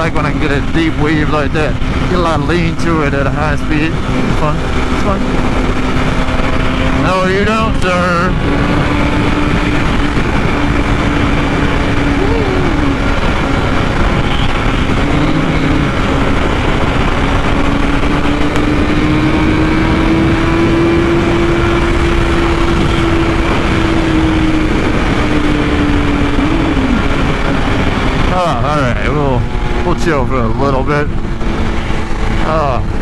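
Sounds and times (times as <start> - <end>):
motorcycle engine at high revs: 0.0 - 33.0
wind noise: 0.0 - 33.0.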